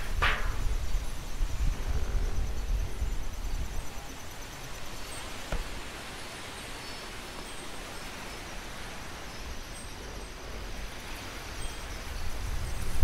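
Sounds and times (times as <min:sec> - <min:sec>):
leaves and branches rustling: 0:00.0 - 0:13.0
wind gusting through trees: 0:00.0 - 0:13.0.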